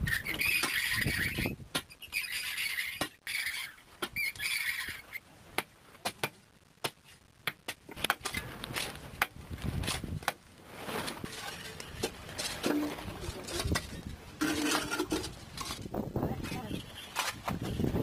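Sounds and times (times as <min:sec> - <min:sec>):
tools scraping earth: 0:00.0 - 0:05.2, 0:06.9 - 0:18.0.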